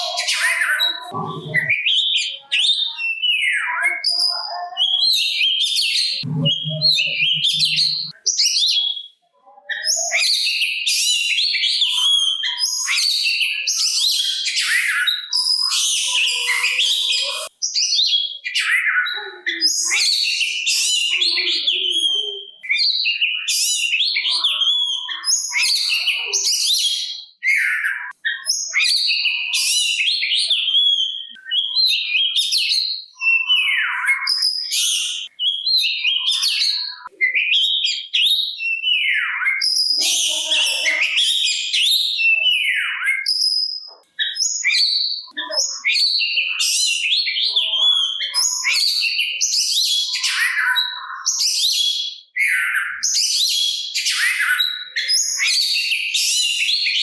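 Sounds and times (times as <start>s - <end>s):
bird singing whistles and trills: 0.0s - 57.0s.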